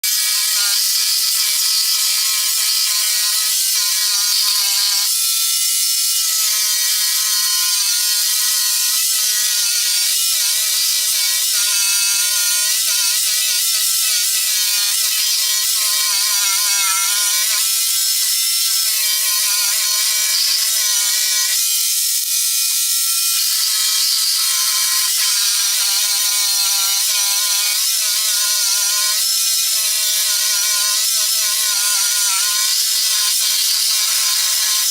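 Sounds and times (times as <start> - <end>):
jigsaw cutting hiss: 0.0 - 34.9
jigsaw whining: 0.0 - 34.9.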